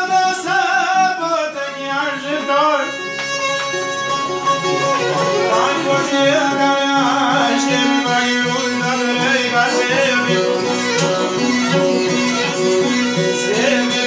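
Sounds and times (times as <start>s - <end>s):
folk music ensemble: 0.0s - 14.0s.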